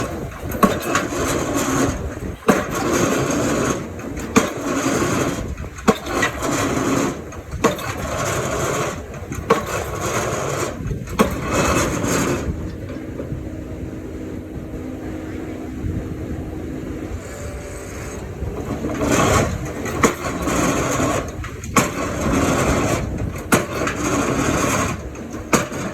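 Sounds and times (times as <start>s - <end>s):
excavator engine under load: 0.0s - 25.9s.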